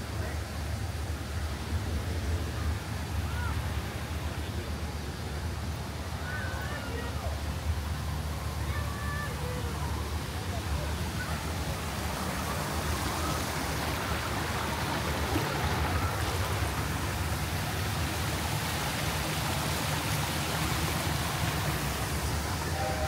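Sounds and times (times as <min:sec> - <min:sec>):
low constant rumble: 0:00.0 - 0:23.0
rushing water: 0:00.0 - 0:23.0.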